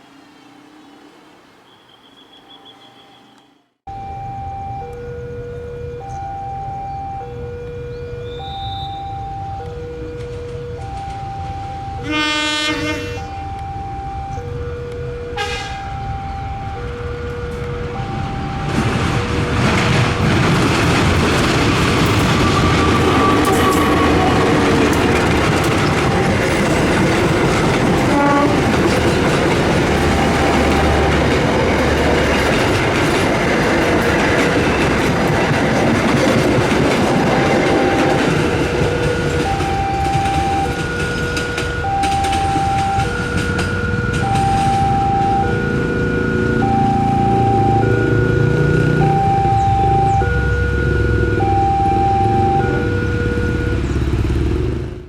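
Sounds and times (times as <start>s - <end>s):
two-tone electronic warning alarm: 2.1s - 55.0s
train passing with wheel clatter: 7.4s - 13.4s, 14.4s - 51.5s, 52.2s - 55.0s.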